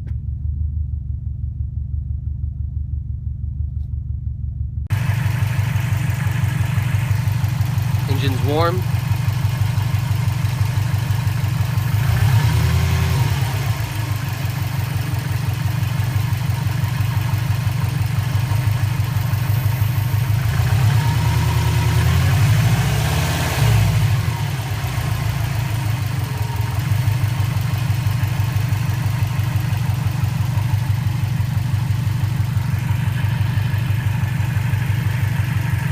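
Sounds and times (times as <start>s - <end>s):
car engine idling and revving: 0.0s - 35.9s
rattly exhaust: 0.0s - 35.9s.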